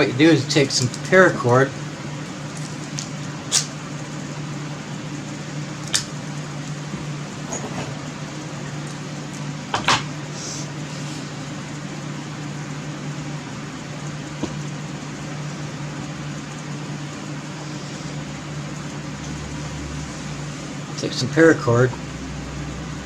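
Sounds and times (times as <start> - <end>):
mechanical hum with hiss: 0.0 - 23.0.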